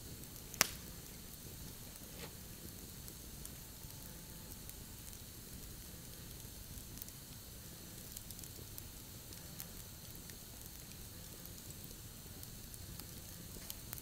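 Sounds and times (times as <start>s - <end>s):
campfire crackling and popping: 0.0s - 14.0s
fire hissing: 0.0s - 14.0s.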